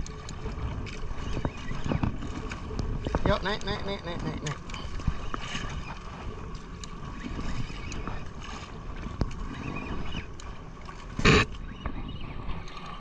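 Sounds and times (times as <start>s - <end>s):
sea noise: 0.0s - 13.0s
wind on microphone: 0.0s - 13.0s.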